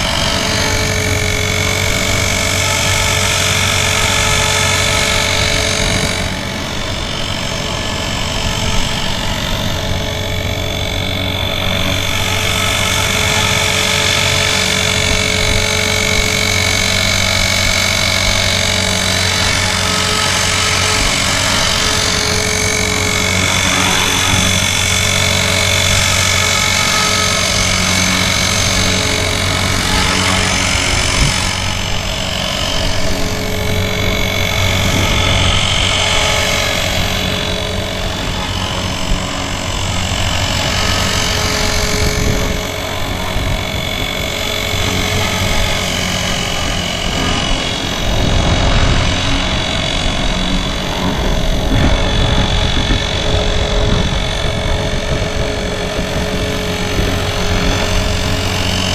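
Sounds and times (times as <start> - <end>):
electric rc helicopter rotor running: 0.0 - 58.9
gear grinding noise: 0.0 - 58.9.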